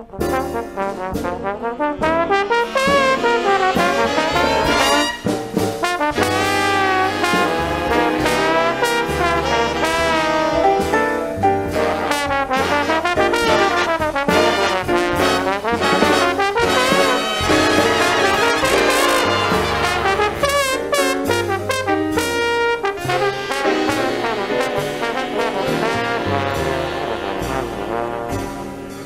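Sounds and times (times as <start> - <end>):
drum and cymbal strikes: 0.0 - 29.0
low bass notes: 0.0 - 29.0
swing big band: 0.0 - 29.0
trombone jazz solo: 0.0 - 29.0.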